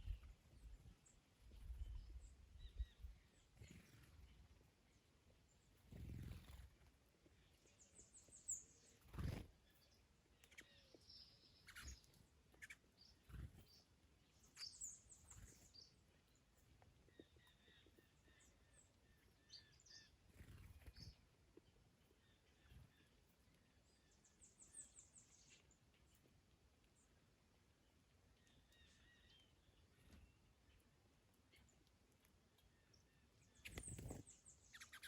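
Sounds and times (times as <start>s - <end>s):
faint birdsong chirps and trills: 0.0s - 35.0s.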